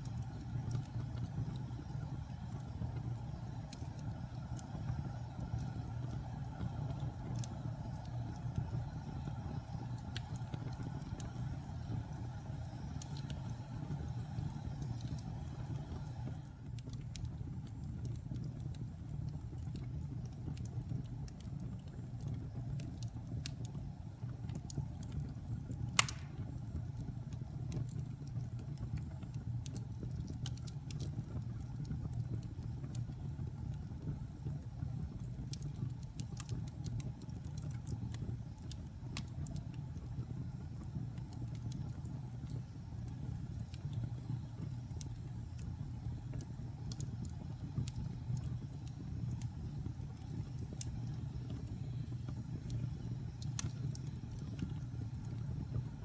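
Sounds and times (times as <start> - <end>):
fire popping: 0.0 - 56.0
wood fire crackling: 0.0 - 56.0.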